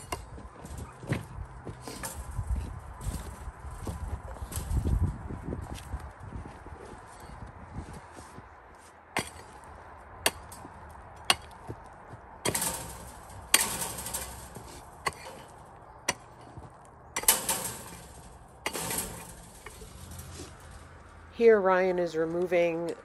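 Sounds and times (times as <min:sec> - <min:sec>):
soil scraping: 0:00.0 - 0:05.9, 0:09.2 - 0:11.8, 0:12.4 - 0:22.7.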